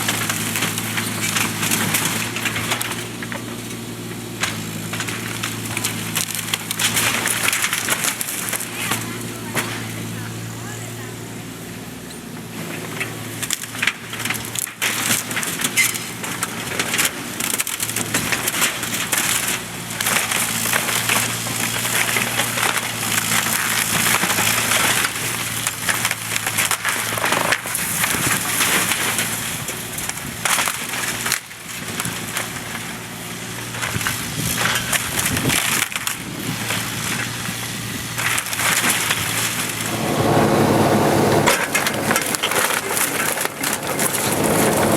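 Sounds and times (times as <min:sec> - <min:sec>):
wood cracking and splintering: 0:00.0 - 0:09.9, 0:12.7 - 0:40.0, 0:41.5 - 0:44.9
diesel engine running: 0:00.0 - 0:44.9.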